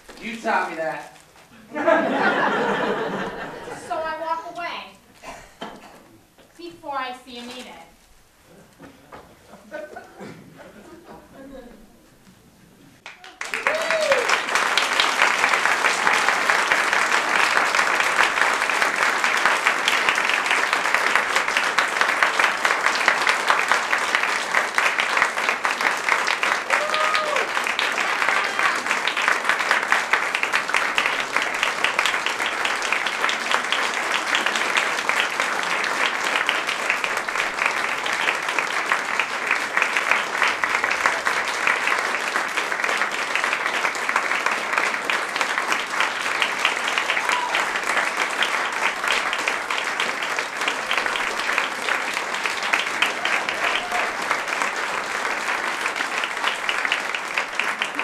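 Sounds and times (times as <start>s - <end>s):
audience applauding: 1.8s - 4.7s, 13.0s - 58.0s.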